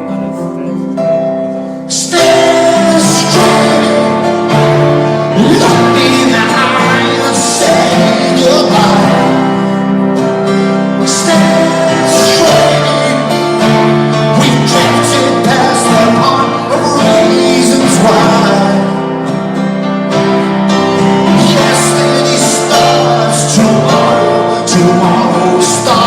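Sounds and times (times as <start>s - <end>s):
rock band playing live: 0.0s - 26.0s.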